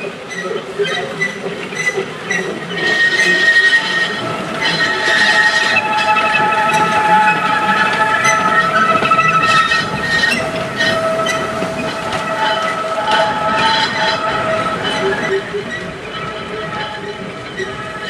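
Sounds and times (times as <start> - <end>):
train wheels squealing: 0.0 - 18.0
wheels clicking over rail joints: 0.0 - 18.0.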